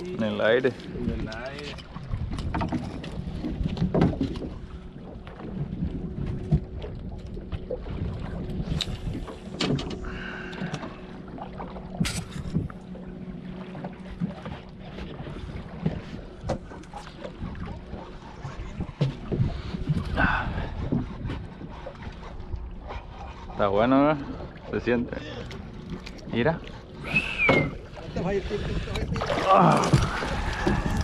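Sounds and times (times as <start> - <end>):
rumble of water: 0.0 - 31.0
small boat: 0.0 - 31.0
wind buffeting microphone: 0.0 - 31.0.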